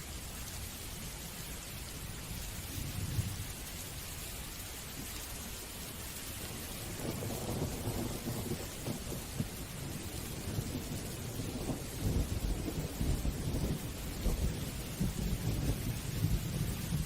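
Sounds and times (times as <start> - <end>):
rain hissing: 0.0 - 17.0
low crackling rumble: 1.1 - 17.0.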